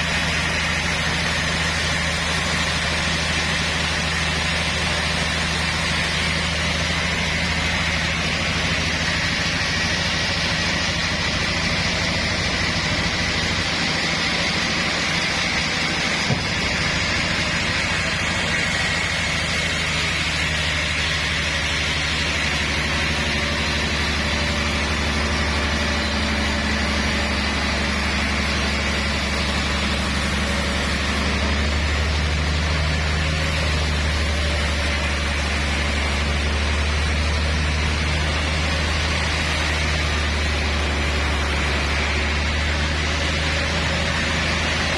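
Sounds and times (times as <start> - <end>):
high machine whine: 0.0 - 44.9
low engine drone: 0.0 - 44.9.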